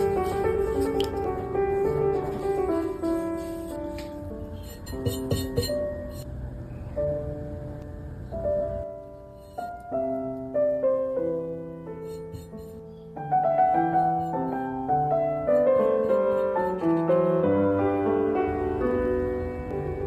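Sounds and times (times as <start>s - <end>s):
slow piano melody: 0.0s - 20.0s.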